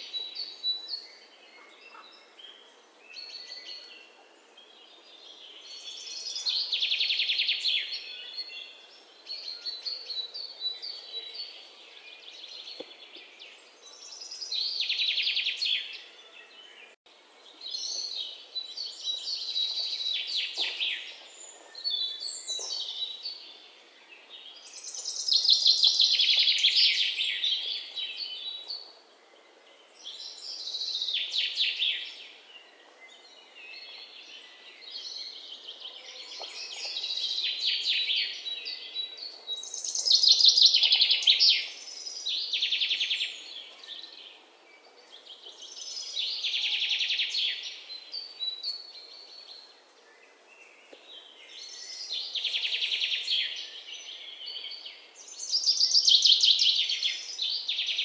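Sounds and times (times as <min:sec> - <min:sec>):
quiet bird chirps: 0:00.0 - 0:58.0.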